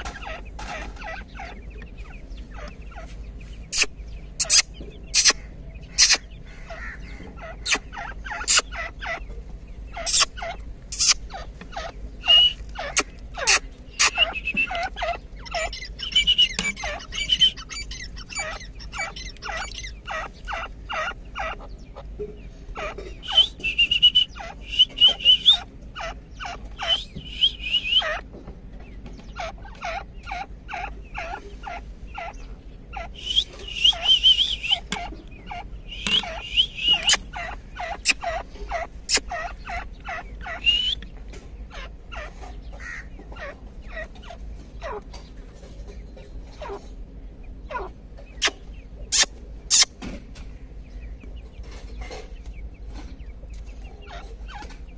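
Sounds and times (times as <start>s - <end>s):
francolins calling: 0.0s - 54.9s
high quavering bird chatter: 0.0s - 54.9s.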